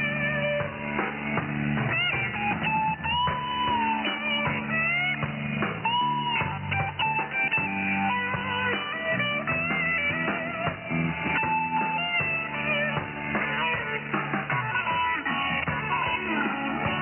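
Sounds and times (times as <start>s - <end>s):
guitar music over shortwave radio: 0.0s - 17.0s.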